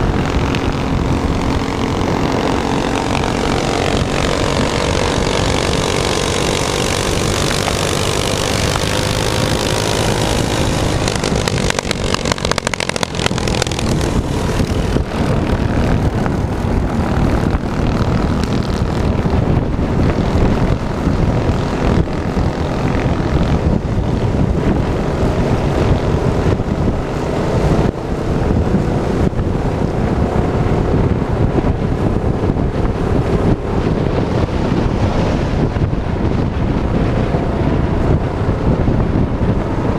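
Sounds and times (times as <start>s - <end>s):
loud rushing noise: 0.0s - 39.9s
minibike engine running: 0.0s - 39.9s.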